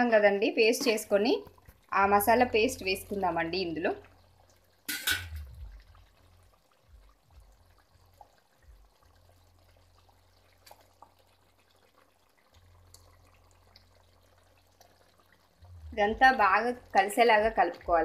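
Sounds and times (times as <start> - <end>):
curry simmering in a pot: 0.0 - 18.0
low steady hum: 0.0 - 18.0.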